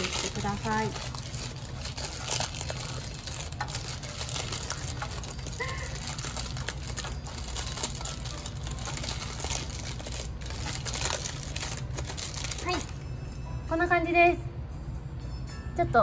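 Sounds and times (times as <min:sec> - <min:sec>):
parchment paper rustling and crackling: 0:00.0 - 0:13.0.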